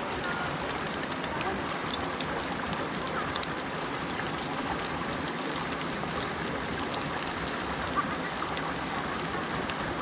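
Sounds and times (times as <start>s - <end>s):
garlic sizzling in hot oil: 0.0s - 10.0s.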